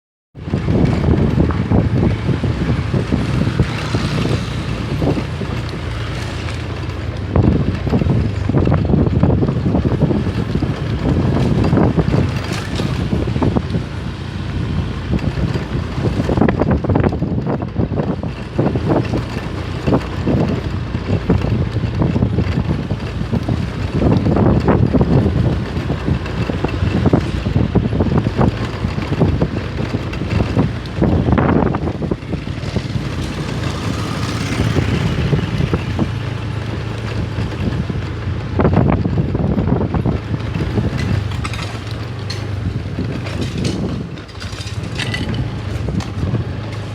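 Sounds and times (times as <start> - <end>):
vehicle engine rumbling: 0.4 - 46.9
wind buffeting microphone: 0.4 - 46.9.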